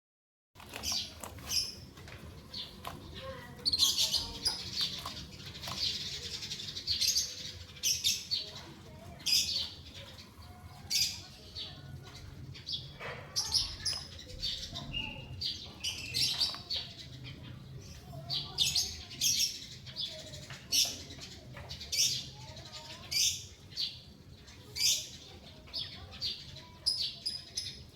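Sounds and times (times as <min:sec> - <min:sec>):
birds chirping and calling: 0:00.6 - 0:27.9.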